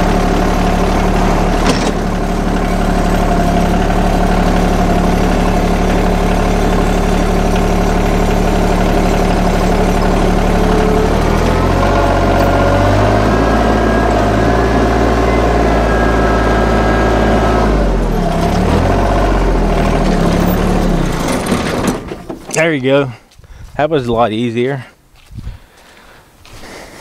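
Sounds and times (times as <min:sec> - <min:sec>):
engine running: 0:00.0 - 0:23.2.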